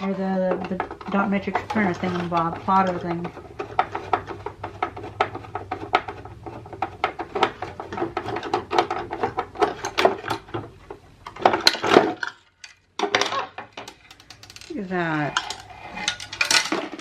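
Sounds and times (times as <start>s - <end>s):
plastic and metal parts clattering: 0.0s - 17.0s.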